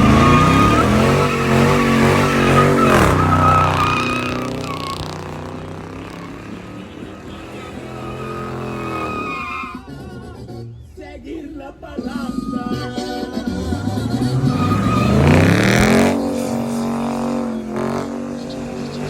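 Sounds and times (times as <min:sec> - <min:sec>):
car engine running loud: 0:00.0 - 0:10.9, 0:13.3 - 0:19.0
another engine: 0:00.0 - 0:19.0.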